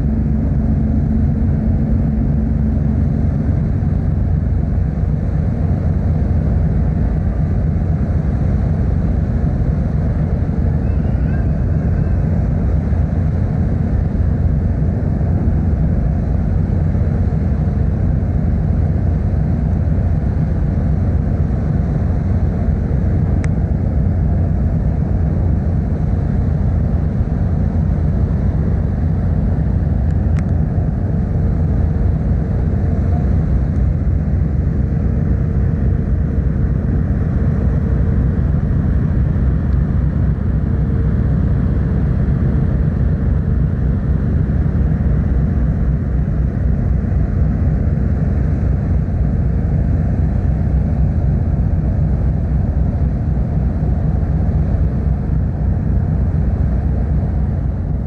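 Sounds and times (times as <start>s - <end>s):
ferry engines rumbling: 0.0s - 48.0s
faint constant hum: 0.0s - 58.0s.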